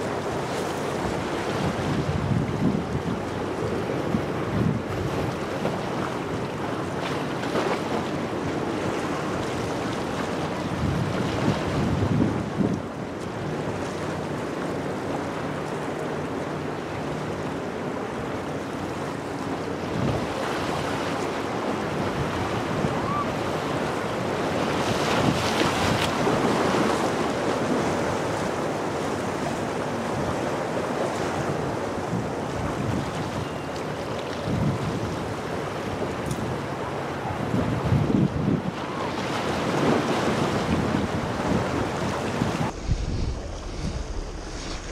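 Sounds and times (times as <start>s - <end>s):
wind buffeting microphone: 0.0s - 13.9s, 19.8s - 44.9s
surf washing against rocks: 0.0s - 44.9s.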